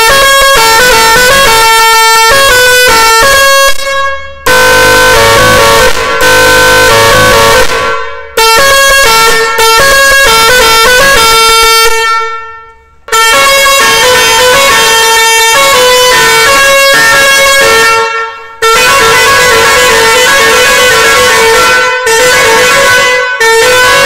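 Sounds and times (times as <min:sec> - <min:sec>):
musical truck horn melody: 0:00.0 - 0:24.0.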